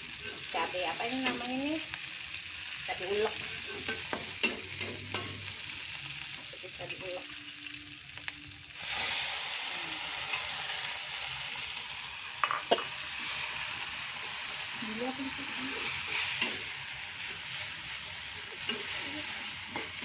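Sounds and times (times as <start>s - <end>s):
chilies sizzling in hot oil: 0.0s - 20.0s.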